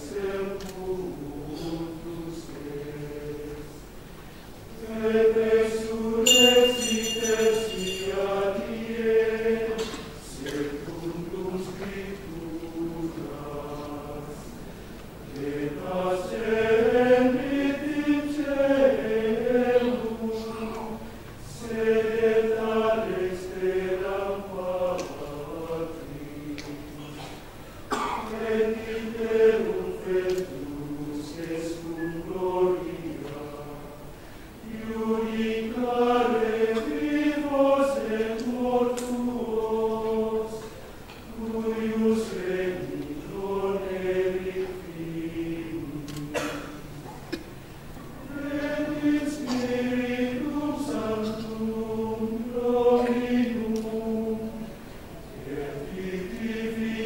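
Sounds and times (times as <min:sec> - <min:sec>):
men's choir chanting: 0:00.0 - 0:03.8, 0:04.8 - 0:14.6, 0:15.3 - 0:34.0, 0:34.7 - 0:46.8, 0:48.2 - 0:57.0.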